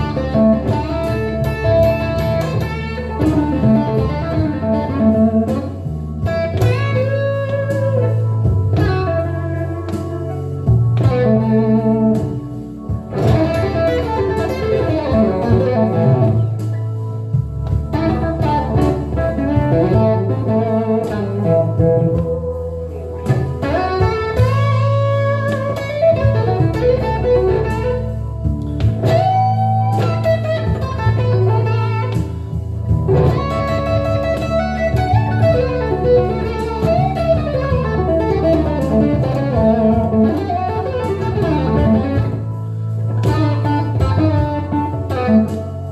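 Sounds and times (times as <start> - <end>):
electric guitar blues lead: 0.0 - 45.9.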